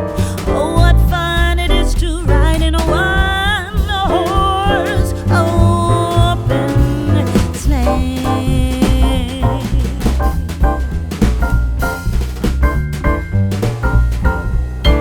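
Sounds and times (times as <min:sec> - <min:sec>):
vibrato melody over bass and percussion: 0:00.0 - 0:15.0.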